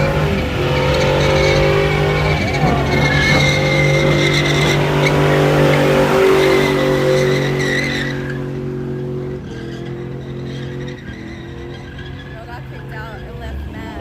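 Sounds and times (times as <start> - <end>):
car engine high revs: 0.0 - 14.0
tyre squeal: 0.0 - 14.0.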